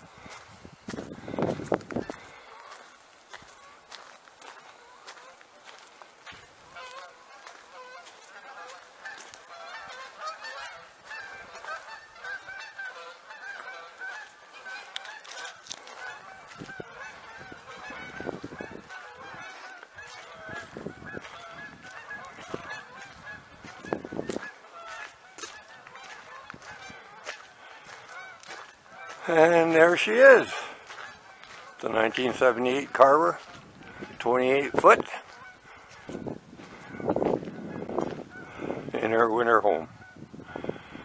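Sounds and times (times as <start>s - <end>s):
geese honking: 0.0s - 41.0s.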